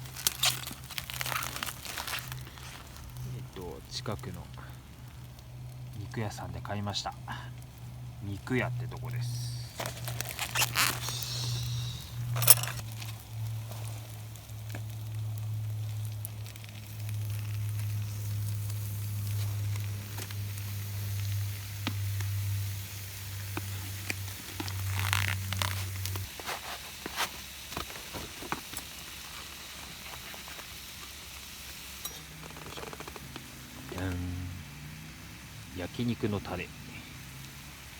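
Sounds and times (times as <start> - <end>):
meat sizzling on a griddle: 0.0 - 37.9.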